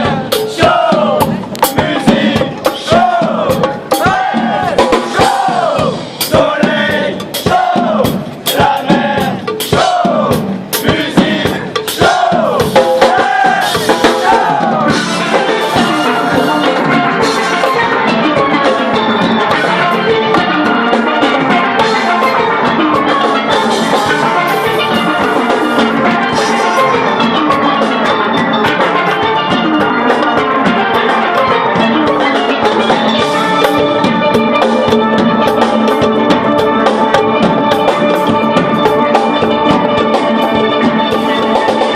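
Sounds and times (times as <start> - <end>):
drum kit percussion: 0.0 - 41.9
steel band playing steelpans: 0.0 - 41.9.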